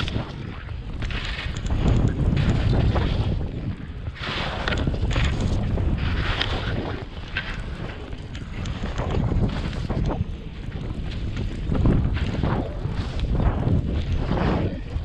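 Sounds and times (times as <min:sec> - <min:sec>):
skis swishing through snow: 0:00.0 - 0:15.0
wind buffeting microphone: 0:00.0 - 0:15.0.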